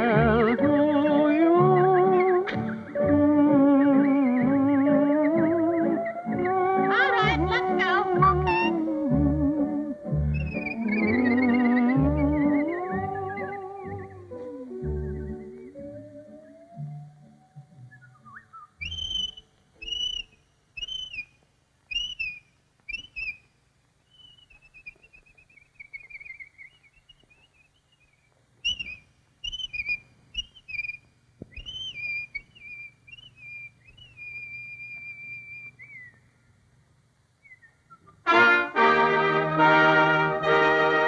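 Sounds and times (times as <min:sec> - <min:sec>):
cartoon bird whistled calls: 0:00.4 - 0:21.3, 0:21.9 - 0:23.4, 0:24.1 - 0:36.2.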